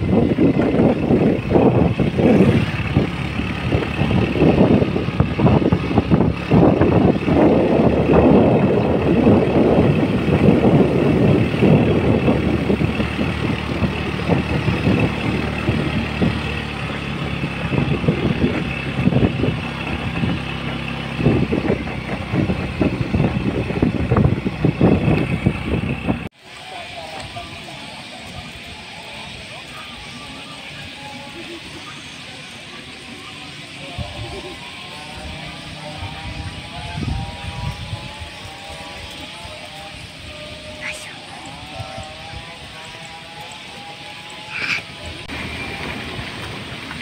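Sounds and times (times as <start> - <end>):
motorbike passing by: 0.0 - 26.3, 32.4 - 47.0
wind buffeting microphone: 0.0 - 26.3, 33.8 - 47.0
motorbike engine running: 0.0 - 47.0.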